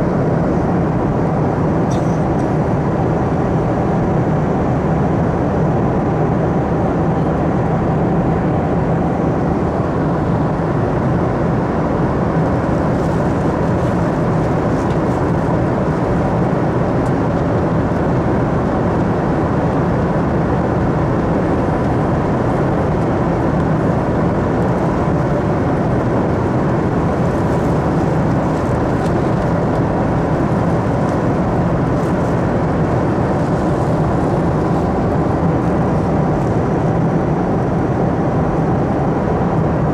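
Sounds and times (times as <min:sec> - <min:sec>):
airflow rushing in airplane cabin: 0:00.0 - 0:39.9
jet engines droning: 0:00.0 - 0:39.9.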